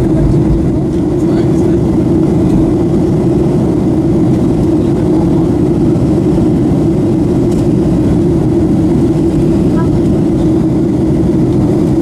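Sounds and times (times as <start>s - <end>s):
jet engines and airflow cabin noise: 0.0s - 12.0s
low cabin hum: 0.0s - 12.0s.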